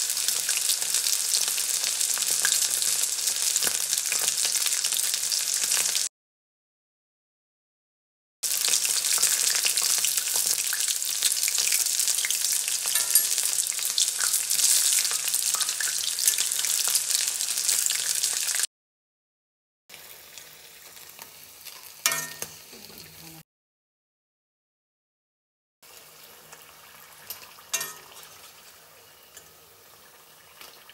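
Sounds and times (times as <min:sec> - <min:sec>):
food deep-frying in oil: 0:00.0 - 0:06.1, 0:08.4 - 0:18.7, 0:19.9 - 0:23.3, 0:25.8 - 0:30.9.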